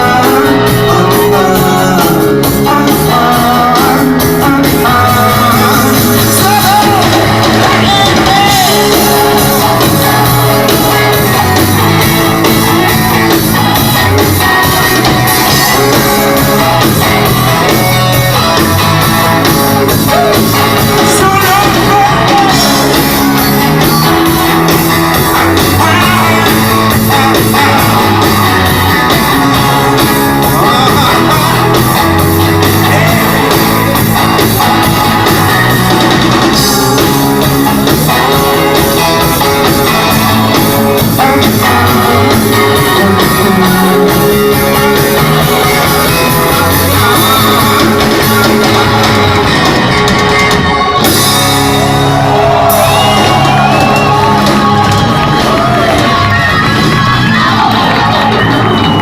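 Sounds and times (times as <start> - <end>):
person singing: 0.0 - 59.0
rock band playing: 0.0 - 59.0.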